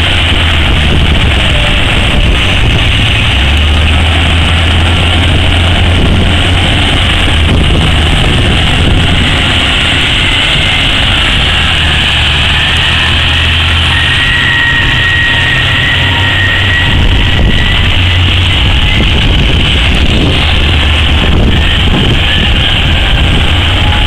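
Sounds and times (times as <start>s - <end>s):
heavy diesel engines running: 0.0s - 24.0s
thin high whine: 0.0s - 24.0s.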